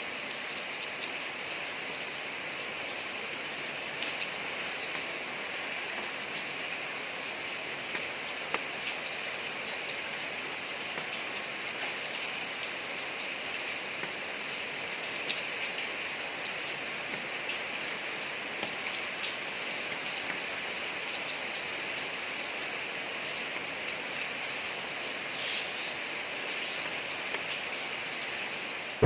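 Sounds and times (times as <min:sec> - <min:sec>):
rain on a street: 0:00.0 - 0:29.0
water drips and splashes: 0:00.0 - 0:29.0.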